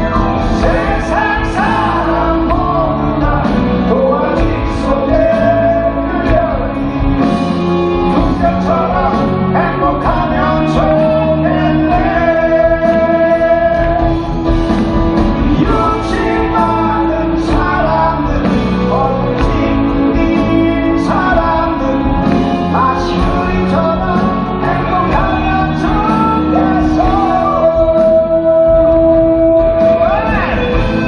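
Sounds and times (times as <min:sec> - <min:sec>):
live band playing pop ballad: 0:00.0 - 0:31.0
man singing: 0:00.0 - 0:31.0.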